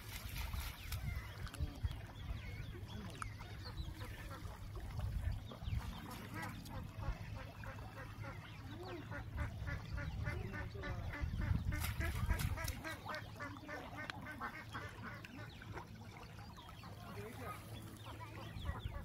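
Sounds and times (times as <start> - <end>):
ducks quacking: 2.4 - 15.8, 16.7 - 19.0.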